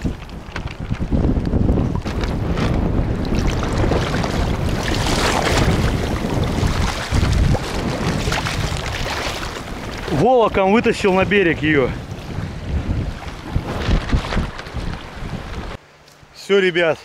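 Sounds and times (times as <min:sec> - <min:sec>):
wind buffeting microphone: 0:00.0 - 0:15.8
seawater splashing: 0:01.7 - 0:15.8.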